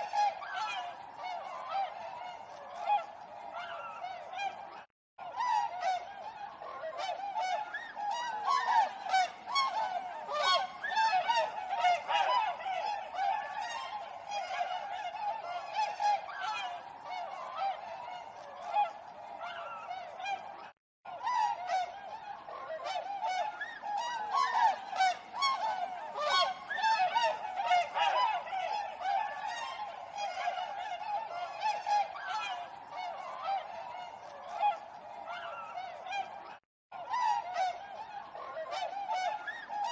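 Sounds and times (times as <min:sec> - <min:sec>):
swans honking: 0:00.0 - 0:39.9.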